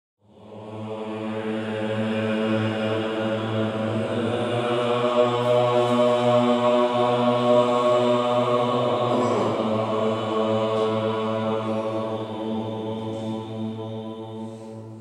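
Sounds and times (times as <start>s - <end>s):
low chanting voices: 0.2s - 15.0s.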